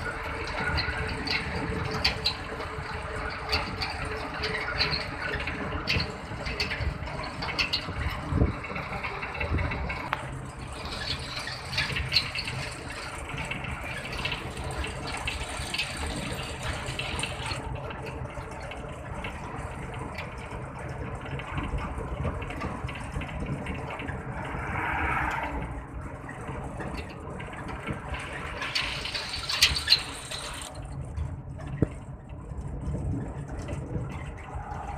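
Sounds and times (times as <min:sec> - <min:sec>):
tyres and wind rushing: 0:00.0 - 0:17.8, 0:19.3 - 0:34.9
low road rumble: 0:00.0 - 0:34.9.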